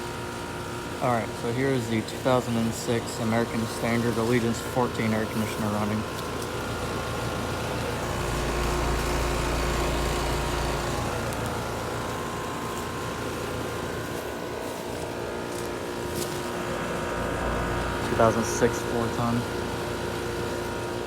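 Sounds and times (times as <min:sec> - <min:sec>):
air conditioner unit humming: 0:00.0 - 0:21.0
condenser fan whooshing: 0:00.0 - 0:21.0.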